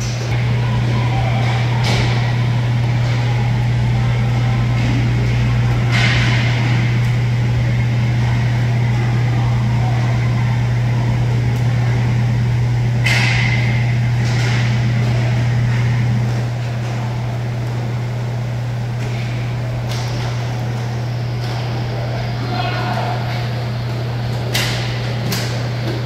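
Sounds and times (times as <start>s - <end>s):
ventilation fans humming: 0.0s - 26.0s.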